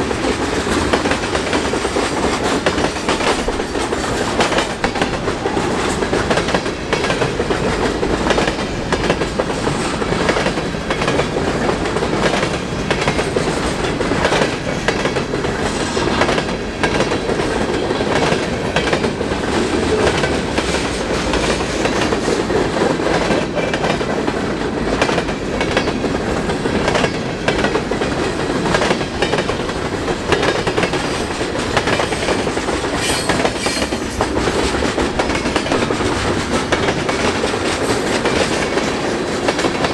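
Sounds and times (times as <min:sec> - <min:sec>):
freight train rumbling: 0:00.0 - 0:39.9
wheels clacking over rail joints: 0:00.0 - 0:39.9.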